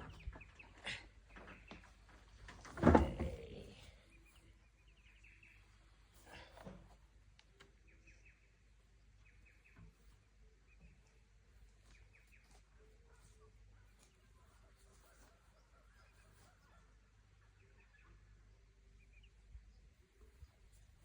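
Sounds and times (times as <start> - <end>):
faint birdsong chirps: 0.0 - 2.6, 3.3 - 21.0.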